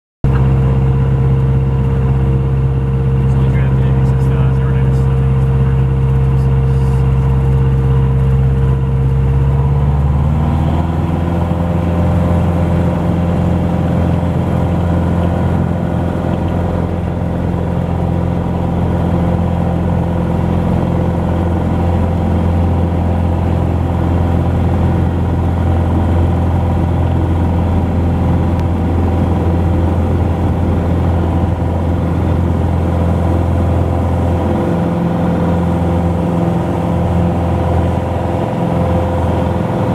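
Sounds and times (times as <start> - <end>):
light aircraft engine and propeller: 0.2 - 39.9.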